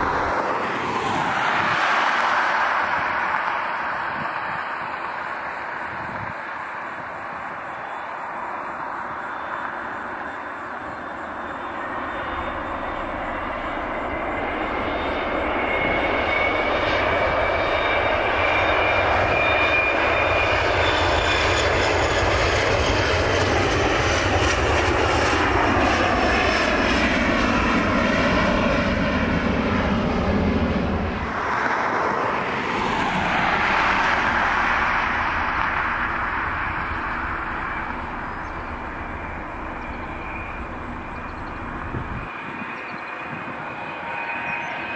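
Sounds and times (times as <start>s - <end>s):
jet engines at takeoff: 0.0s - 44.9s.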